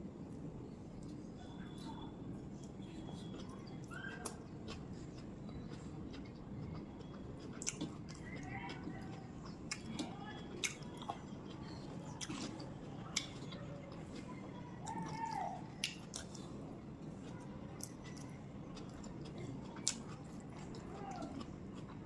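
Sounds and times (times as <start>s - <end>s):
chewing food: 1.0s - 22.0s.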